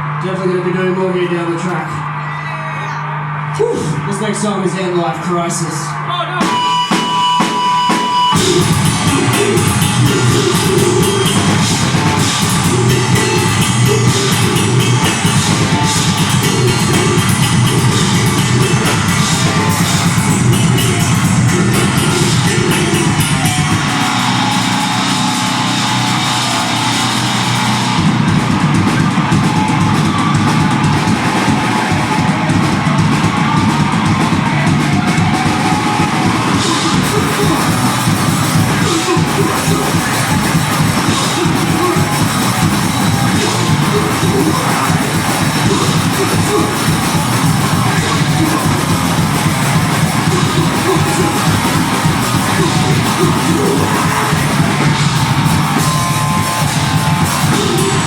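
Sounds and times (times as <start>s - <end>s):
distorted guitars and bass: 0.0s - 58.0s
live deathgrind band playing: 6.3s - 58.0s
fast dense drumming: 6.4s - 58.0s.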